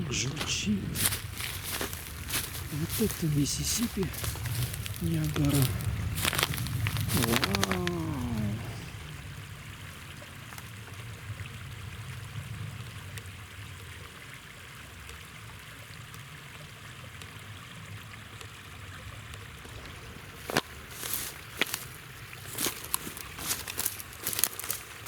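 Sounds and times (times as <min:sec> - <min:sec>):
brook babbling over waterfall: 0:00.0 - 0:25.0.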